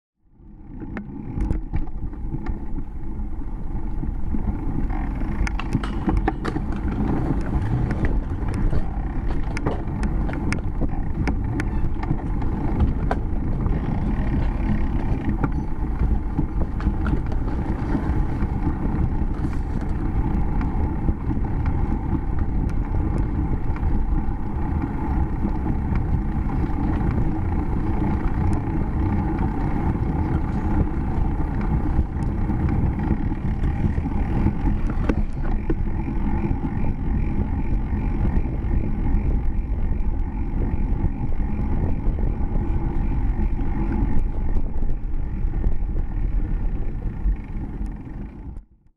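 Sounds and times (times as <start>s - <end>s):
bicycle tyre rumble on concrete: 0.2s - 48.9s
wind buffeting microphone: 0.5s - 48.8s
sharp clicks and rattles: 0.6s - 48.7s.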